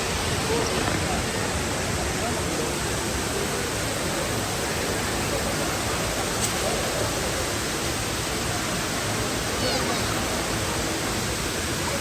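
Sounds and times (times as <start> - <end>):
faint voices: 0.0 - 12.0
waterfall roaring: 0.0 - 12.0.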